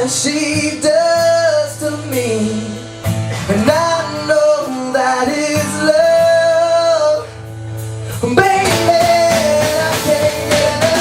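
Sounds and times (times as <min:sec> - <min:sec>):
blues guitar accompaniment: 0:00.0 - 0:11.0.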